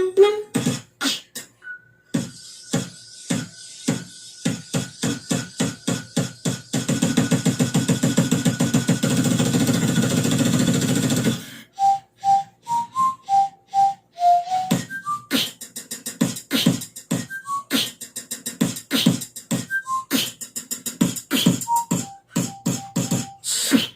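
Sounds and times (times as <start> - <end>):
whistled notes: 0.0 - 7.6, 11.5 - 18.2, 18.9 - 23.9
beatboxing: 0.0 - 23.9.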